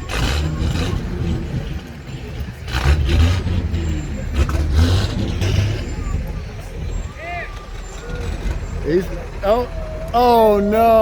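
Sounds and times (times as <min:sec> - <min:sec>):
engine revving and stalling: 0:00.0 - 0:10.2.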